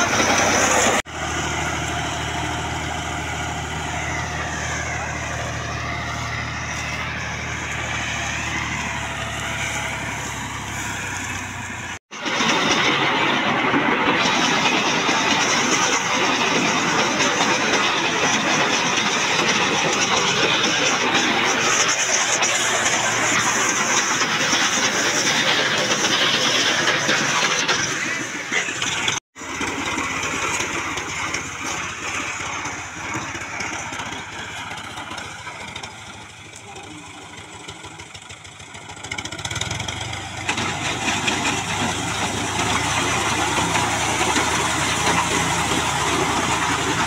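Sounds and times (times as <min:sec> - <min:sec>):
reaper cutting crop: 0:00.0 - 0:47.0
tractor diesel engine running: 0:00.0 - 0:47.0.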